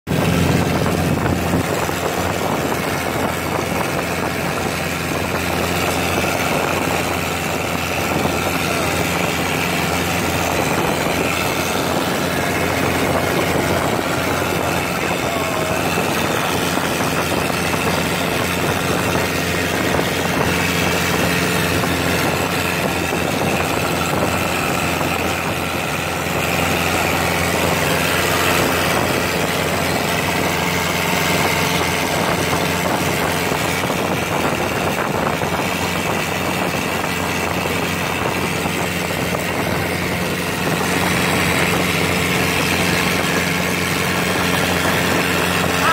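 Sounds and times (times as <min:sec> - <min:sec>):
motorboat engine droning: 0:00.1 - 0:45.9
water rushing: 0:00.1 - 0:45.9
wind: 0:00.1 - 0:45.9.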